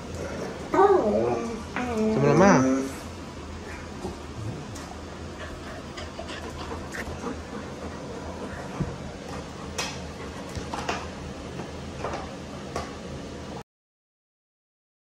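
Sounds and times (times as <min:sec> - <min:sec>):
low room hum: 0:00.0 - 0:13.6.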